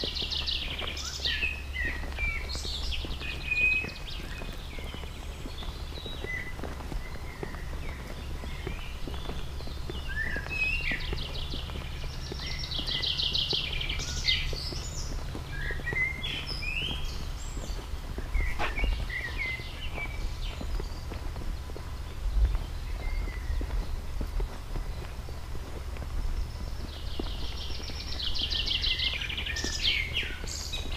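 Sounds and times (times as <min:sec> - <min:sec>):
footsteps on gravel: 0:00.0 - 0:30.9
songbirds singing: 0:00.0 - 0:30.9.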